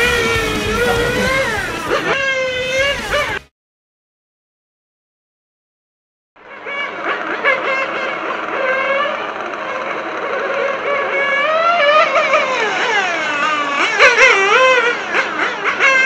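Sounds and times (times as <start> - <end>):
model car engine whining: 0.0 - 3.5, 6.4 - 16.0.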